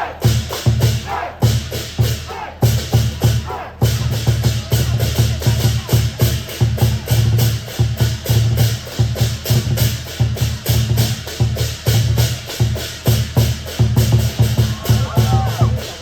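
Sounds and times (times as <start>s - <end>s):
big drum beating: 0.0s - 16.0s
cymbals clashing: 0.0s - 16.0s.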